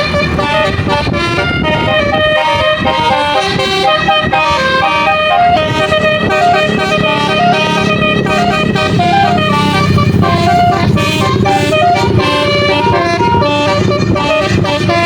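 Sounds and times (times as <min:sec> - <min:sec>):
low rumble of bus: 0:00.0 - 0:15.0
musical bus horn playing a tune: 0:00.0 - 0:15.0.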